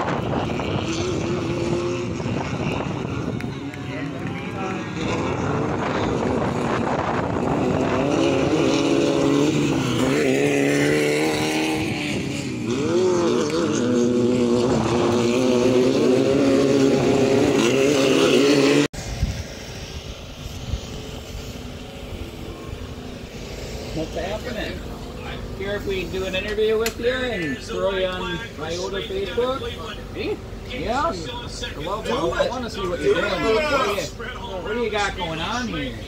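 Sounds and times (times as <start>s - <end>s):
buggy engines revving: 0.0s - 36.0s.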